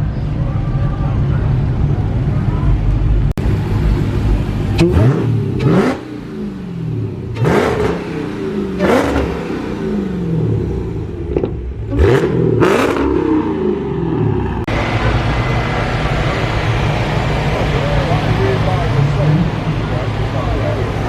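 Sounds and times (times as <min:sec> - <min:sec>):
car engine revving: 0:01.6 - 0:21.0.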